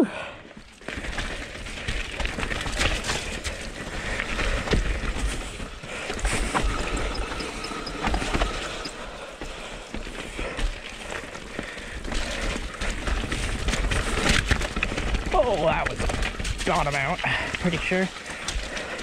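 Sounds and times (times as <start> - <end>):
tyres rumbling over dirt trail: 0.1 - 19.0
bike clattering and rattling: 0.5 - 19.0.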